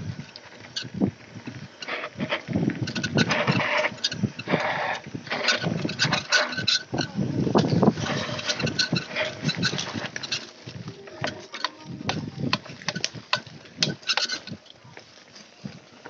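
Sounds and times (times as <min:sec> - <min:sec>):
bike tyres rolling over leaves: 0:00.0 - 0:16.0
bike chain clattering: 0:01.7 - 0:14.6.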